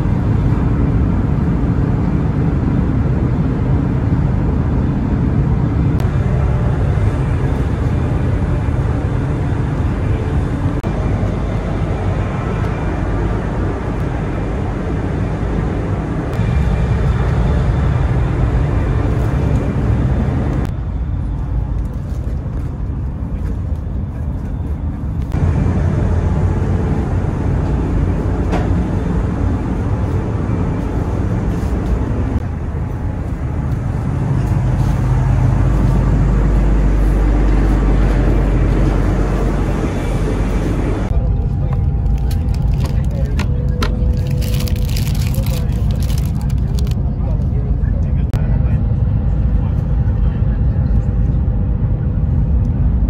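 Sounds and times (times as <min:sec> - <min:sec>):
electric train running at speed: 0:00.0 - 0:53.0.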